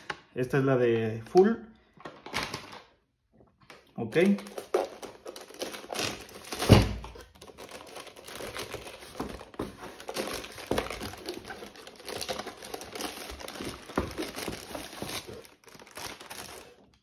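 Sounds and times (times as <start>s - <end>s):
plastic wrapping crinkling: 2.0s - 3.0s, 3.6s - 17.0s.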